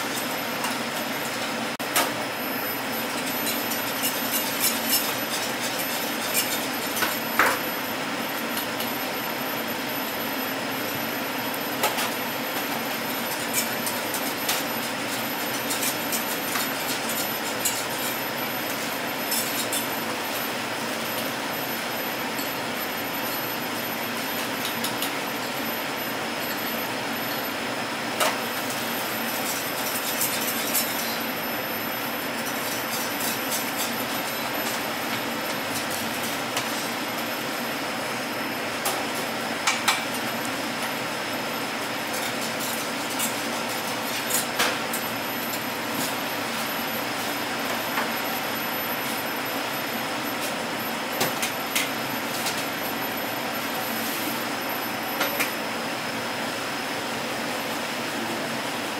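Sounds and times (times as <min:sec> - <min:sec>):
kitchen hum and hiss: 0:00.0 - 0:58.9.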